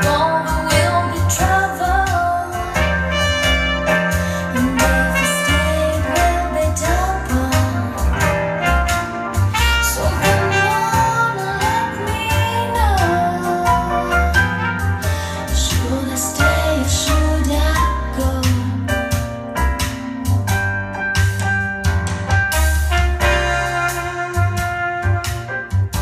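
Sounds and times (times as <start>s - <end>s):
drums: 0.0s - 26.0s
jazz music with singing: 0.0s - 26.0s
stepping bass line: 0.0s - 26.0s.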